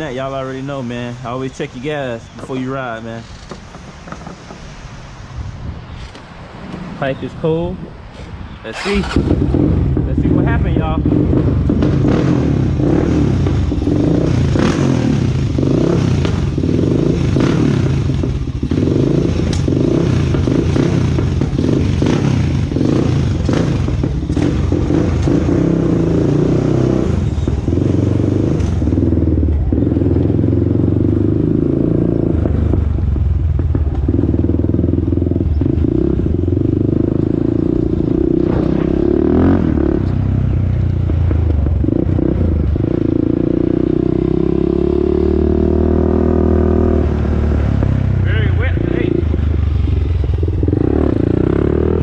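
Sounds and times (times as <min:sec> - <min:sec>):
quad bike engine running: 0:08.9 - 0:52.0.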